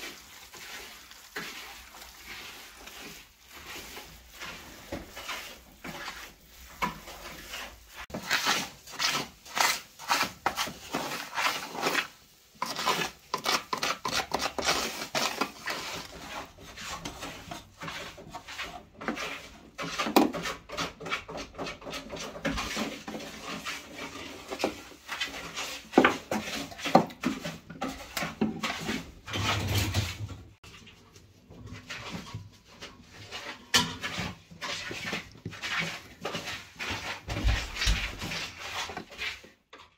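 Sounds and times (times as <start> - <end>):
hands kneading meat in a bowl: 0.0 - 29.2, 30.6 - 39.7.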